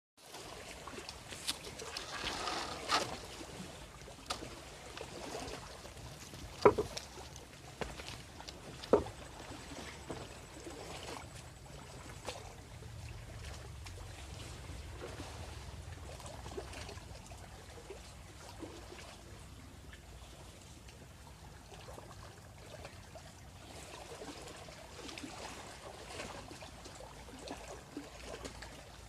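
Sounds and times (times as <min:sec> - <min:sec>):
seawater sloshing in shallows: 0:00.2 - 0:29.0.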